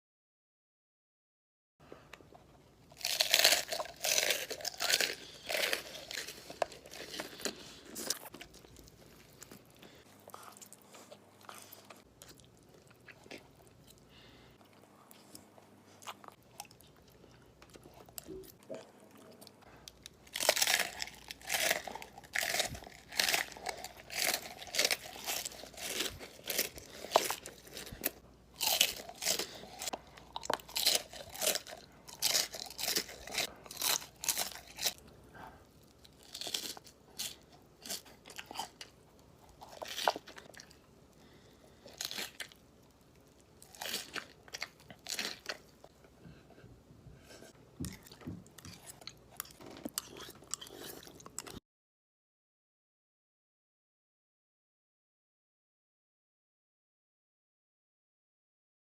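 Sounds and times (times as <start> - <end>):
crunchy food chewing: 2.8 - 46.0, 47.3 - 51.6.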